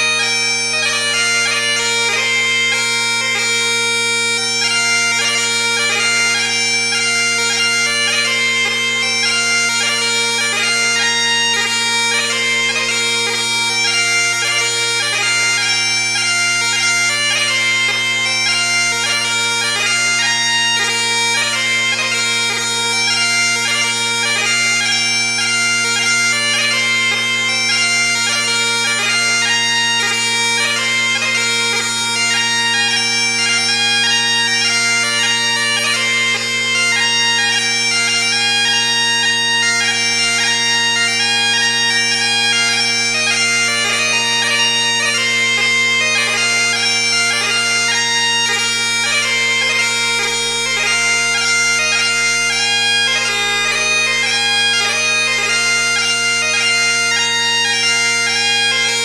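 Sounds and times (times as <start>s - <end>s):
bagpipe music with drones: 0.0s - 59.0s.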